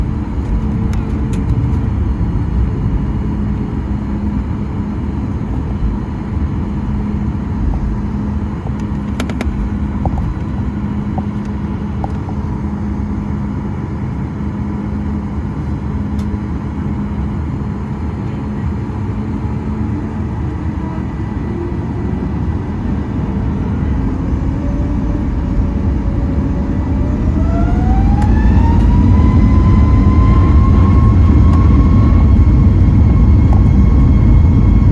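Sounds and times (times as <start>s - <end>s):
aircraft cabin engine rumble: 0.0s - 34.9s
jet engines spooling up whine: 0.0s - 34.9s.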